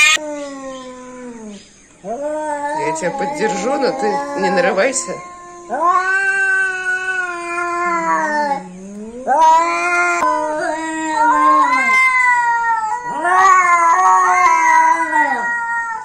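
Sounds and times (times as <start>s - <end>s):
cats yowling: 0.0s - 16.0s.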